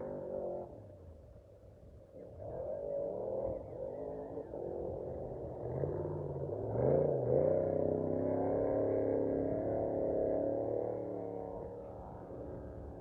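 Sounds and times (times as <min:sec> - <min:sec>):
off-road vehicle engine running: 0:02.4 - 0:13.0.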